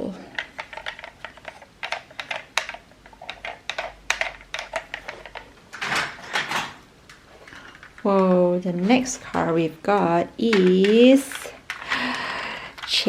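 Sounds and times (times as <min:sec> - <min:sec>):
plastic toy vehicles clicking: 0:00.3 - 0:13.0.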